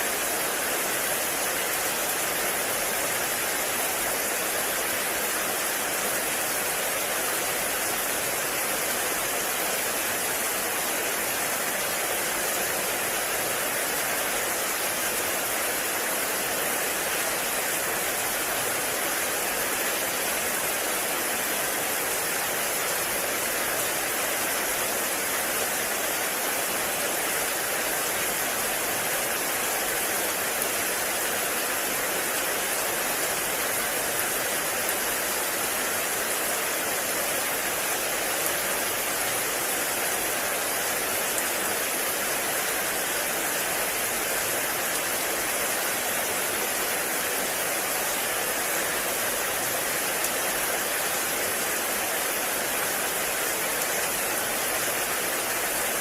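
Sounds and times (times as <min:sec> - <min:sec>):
heavy rain in forest: 0:00.0 - 0:56.0.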